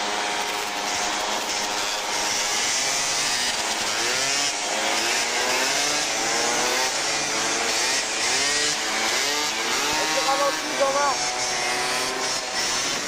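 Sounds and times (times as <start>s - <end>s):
scooter engine buzzing and revving: 0.0s - 13.0s.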